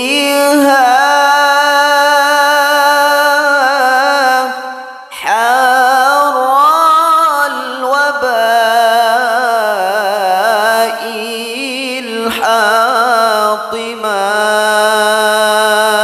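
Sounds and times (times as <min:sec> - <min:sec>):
man singing a chant: 0:00.0 - 0:16.0.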